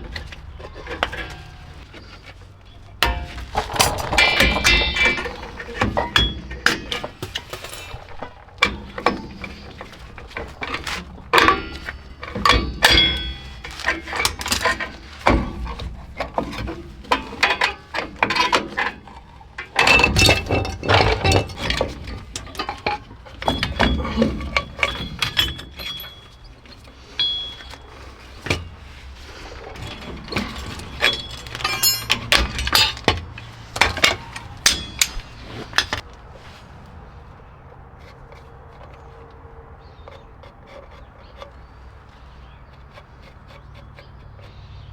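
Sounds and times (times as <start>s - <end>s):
tools clinking on metal brake parts: 0.0s - 36.2s.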